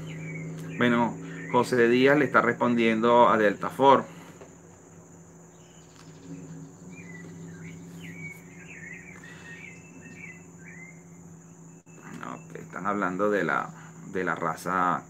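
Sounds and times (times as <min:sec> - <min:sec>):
bird chirping: 0:00.0 - 0:15.0
high insect drone: 0:00.0 - 0:15.0
low hum: 0:00.0 - 0:15.0.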